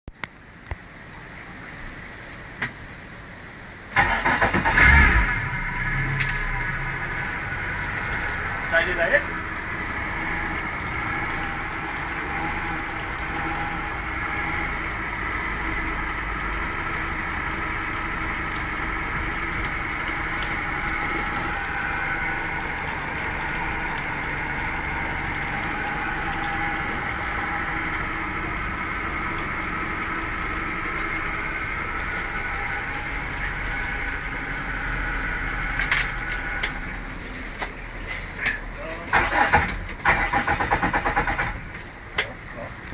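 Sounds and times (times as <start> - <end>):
outboard engine idling: 4.0 - 42.9.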